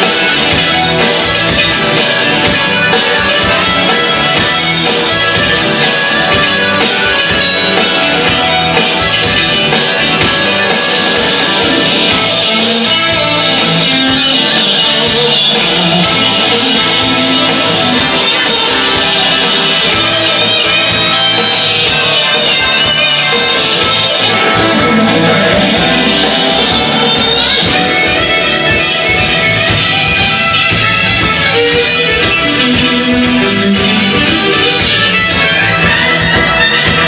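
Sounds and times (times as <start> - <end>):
instrumental rock band: 0.0 - 37.0.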